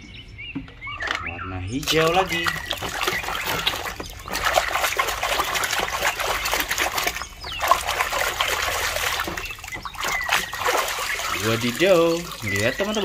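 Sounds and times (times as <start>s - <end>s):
water trickling and splashing: 1.7s - 13.0s.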